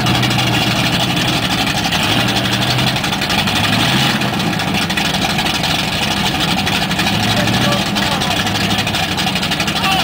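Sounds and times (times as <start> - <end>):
truck engine running at low revs: 0.0 - 10.0.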